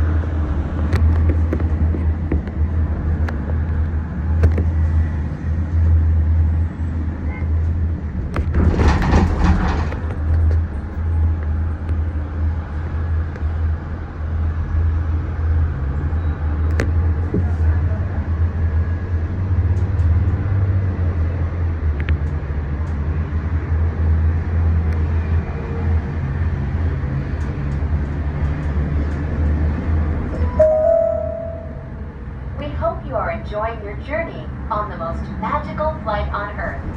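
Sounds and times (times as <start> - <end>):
gondola cabin rumble and hiss: 0.0 - 36.9.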